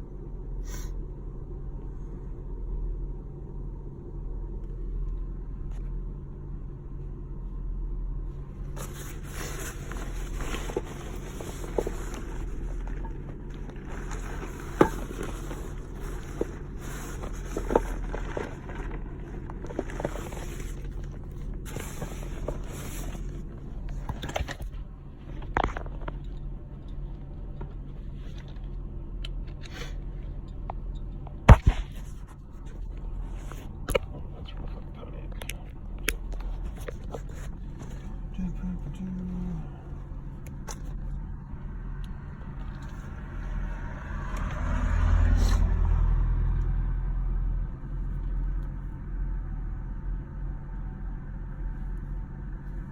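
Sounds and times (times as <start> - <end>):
rustling and scraping in car: 0.0 - 46.0, 47.7 - 52.9
car engine idling hum: 0.0 - 52.9.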